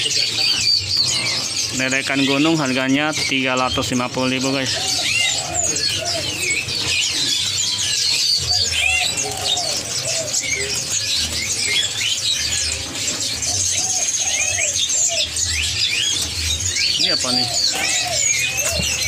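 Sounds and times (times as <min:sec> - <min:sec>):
doves cooing: 0:00.0 - 0:19.0
songbirds chirping and whistling: 0:00.0 - 0:19.0.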